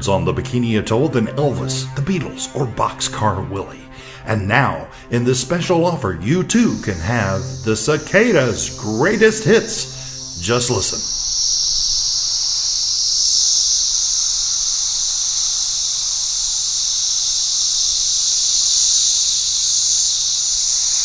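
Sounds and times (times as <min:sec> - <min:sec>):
cicadas buzzing: 0:00.0 - 0:21.0.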